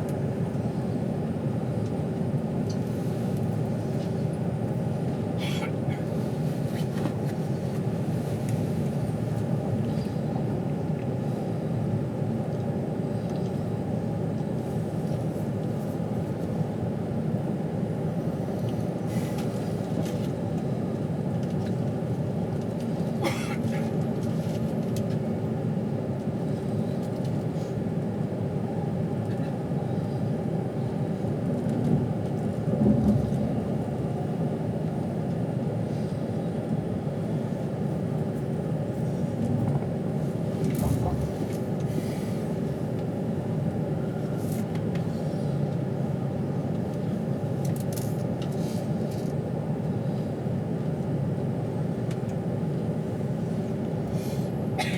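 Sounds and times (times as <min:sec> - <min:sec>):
train rumble inside carriage: 0:00.0 - 0:54.9.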